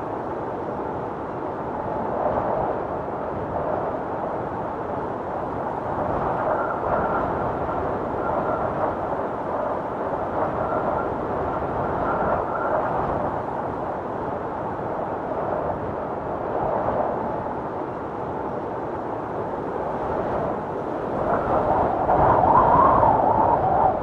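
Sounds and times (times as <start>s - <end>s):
howling blizzard wind: 0.0s - 24.0s.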